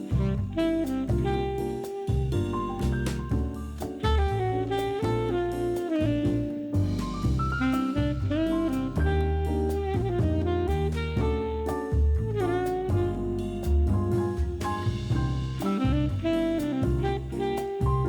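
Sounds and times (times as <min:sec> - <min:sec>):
bass and drums: 0:00.0 - 0:18.0
jazz saxophone melody: 0:00.0 - 0:18.0.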